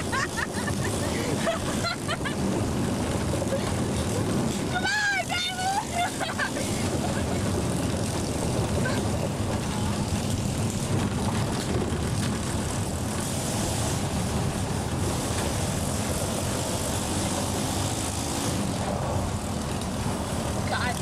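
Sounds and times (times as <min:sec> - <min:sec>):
tyres rumbling on gravel: 0:00.0 - 0:21.0
vehicle engine drone: 0:00.0 - 0:21.0
wind noise: 0:00.0 - 0:21.0.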